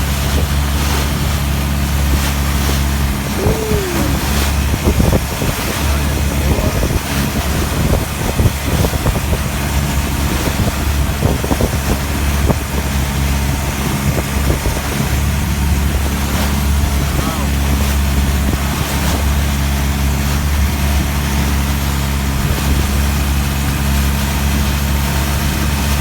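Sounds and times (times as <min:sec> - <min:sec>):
boat engine running: 0:00.0 - 0:26.0
wind buffeting microphone: 0:00.0 - 0:26.0.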